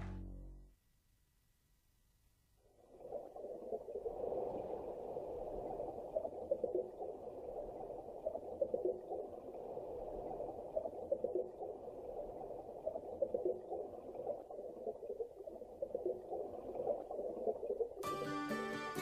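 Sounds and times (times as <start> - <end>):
underwater bubbling and gurgling: 2.7 - 18.0.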